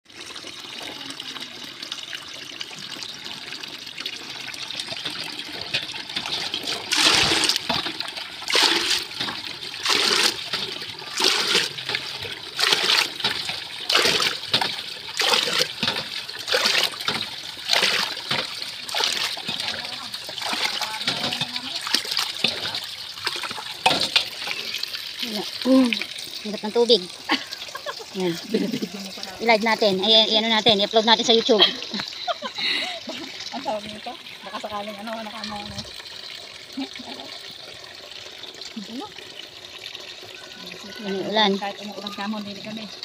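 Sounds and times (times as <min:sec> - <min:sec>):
dipper splashing water: 0:00.0 - 0:43.0
water trickling into metal basin: 0:00.0 - 0:43.0.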